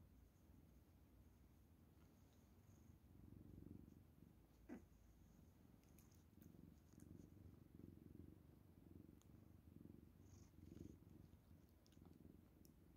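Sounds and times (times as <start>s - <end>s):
cat purring faintly: 0.0s - 12.9s.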